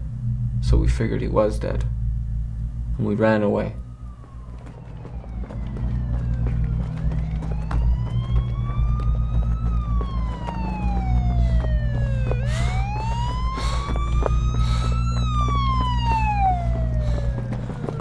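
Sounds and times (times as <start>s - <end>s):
emergency siren wailing: 0.0s - 18.0s
low steady rumble: 0.0s - 18.0s.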